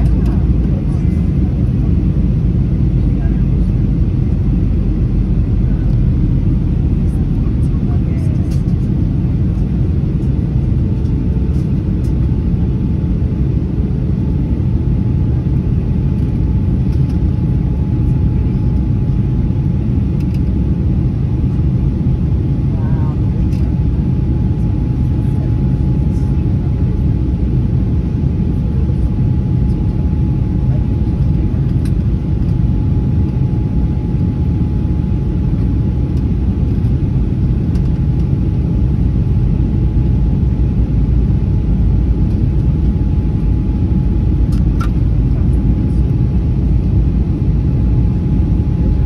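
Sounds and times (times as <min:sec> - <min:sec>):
airplane cabin rumble: 0:00.0 - 0:49.0.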